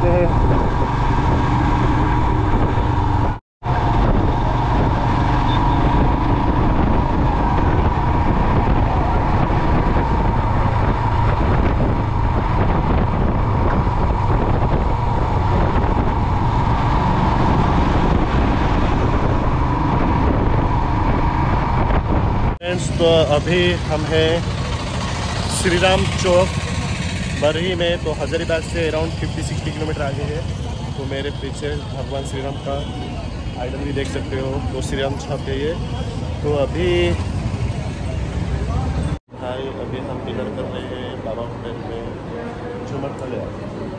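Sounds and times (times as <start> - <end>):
motorcycle engine: 0.0 - 39.2
road and wind noise: 0.0 - 43.9.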